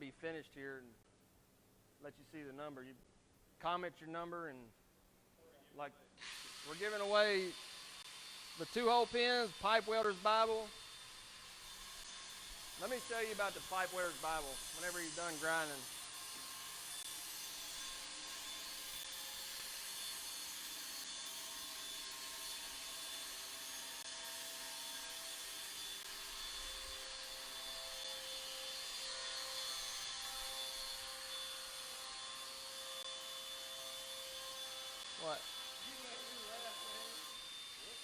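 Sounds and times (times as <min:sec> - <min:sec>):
grinder grinding steel: 0:06.2 - 0:38.0.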